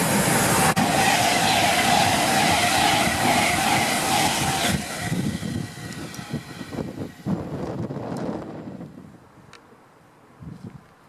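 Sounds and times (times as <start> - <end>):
electric train passing at speed: 0.0 - 9.5.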